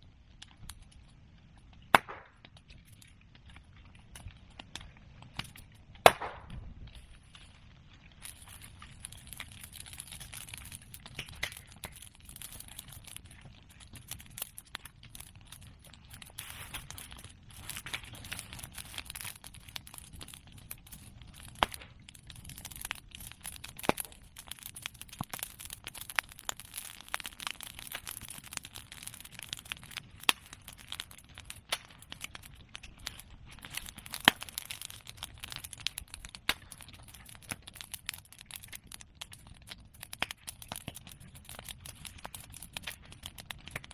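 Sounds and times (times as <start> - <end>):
open fire crackling: 0.0 - 43.9
sharp pops from fire: 0.0 - 43.9.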